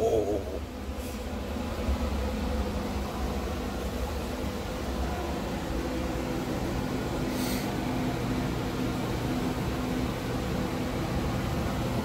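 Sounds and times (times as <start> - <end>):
smoker fan humming: 0.0 - 12.0.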